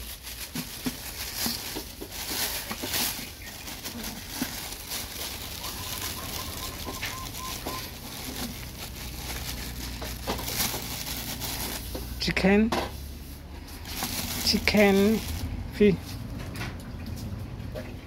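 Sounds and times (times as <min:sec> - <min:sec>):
plastic bags rustling: 0:00.0 - 0:16.4.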